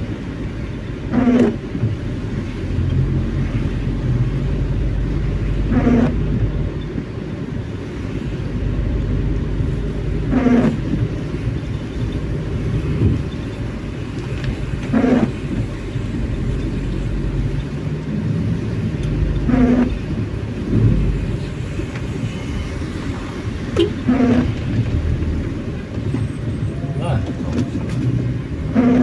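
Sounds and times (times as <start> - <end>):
car road and engine noise: 0.0 - 29.0.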